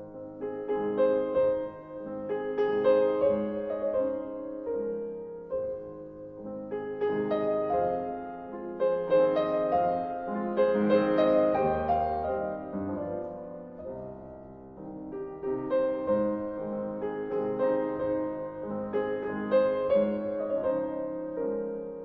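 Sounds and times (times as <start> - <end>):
soft piano melody: 0.0 - 22.0.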